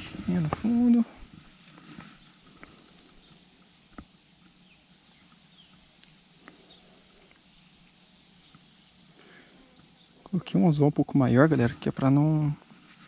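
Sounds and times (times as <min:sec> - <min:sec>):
faint bird chirps: 0:00.0 - 0:11.8.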